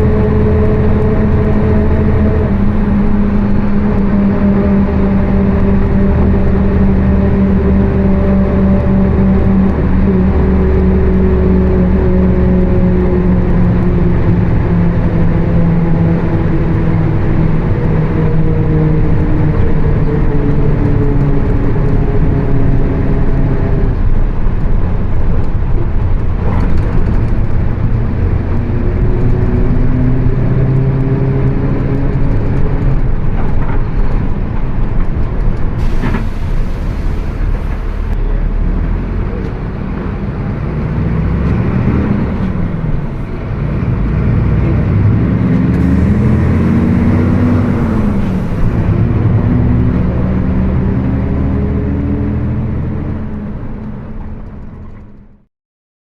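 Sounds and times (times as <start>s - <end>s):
pitched drone: 0.0s - 54.8s
bus differential roar: 0.0s - 55.5s.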